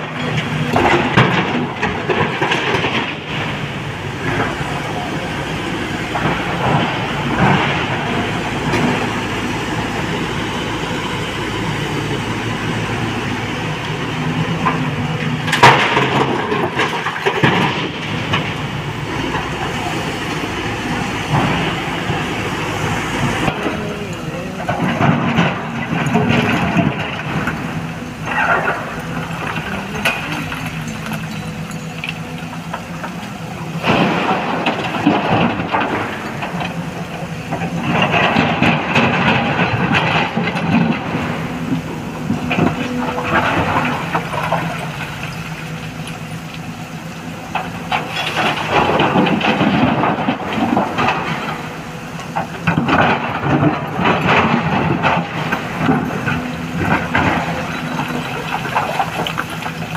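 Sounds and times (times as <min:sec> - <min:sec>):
diesel excavator engine running: 0:00.0 - 0:59.9.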